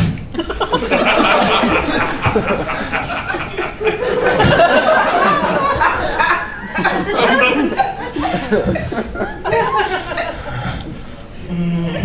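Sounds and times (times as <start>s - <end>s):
audience laughing: 0.2s - 12.0s.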